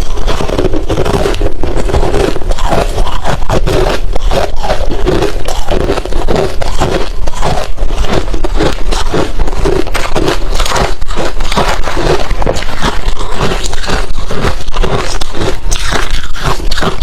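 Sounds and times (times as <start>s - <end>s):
chewing crushed ice: 0.0s - 17.0s.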